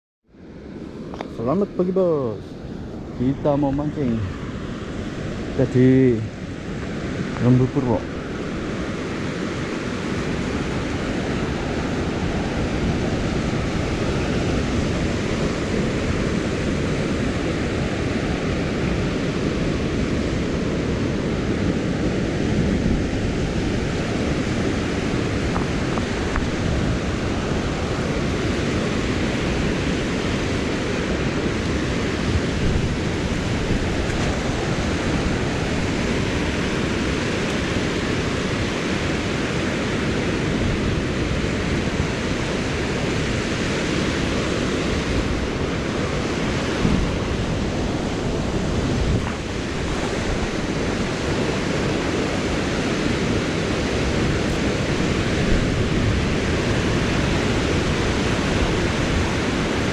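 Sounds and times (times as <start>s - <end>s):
ocean surf breaking on shore: 0.4s - 59.9s
wind on microphone: 0.4s - 59.9s.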